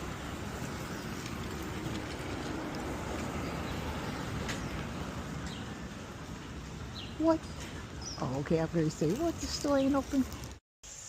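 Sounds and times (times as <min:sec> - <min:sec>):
street noise rumble and hiss: 0:00.0 - 0:11.0.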